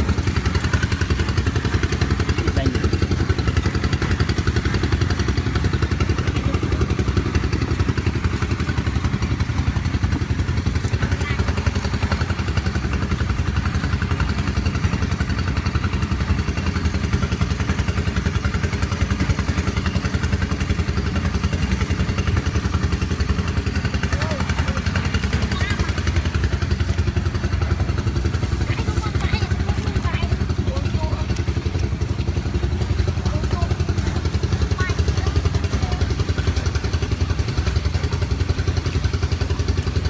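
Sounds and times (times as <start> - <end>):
small engine chugging: 0.0 - 40.0.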